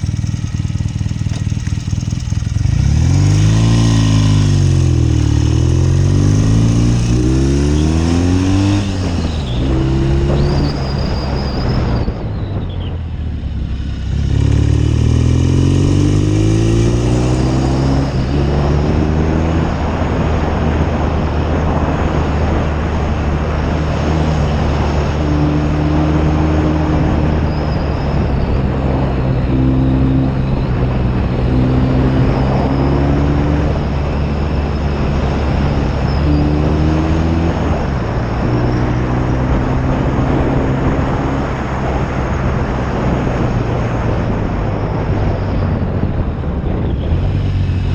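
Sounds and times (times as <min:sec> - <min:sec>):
motorcycle engine accelerating: 0:00.0 - 0:47.9
wind noise: 0:01.8 - 0:47.9.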